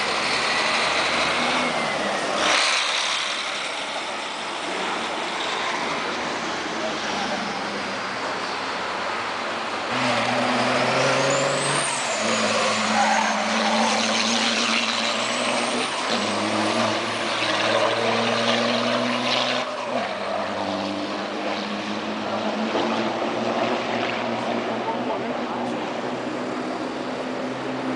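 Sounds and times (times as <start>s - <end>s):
racing truck engines: 0.0s - 27.9s.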